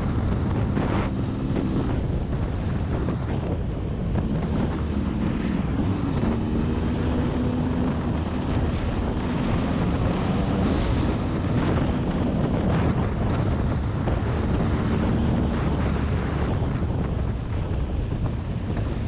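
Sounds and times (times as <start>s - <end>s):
vehicle engine rumbling: 0.0s - 19.0s
wind buffeting microphone: 0.0s - 19.0s.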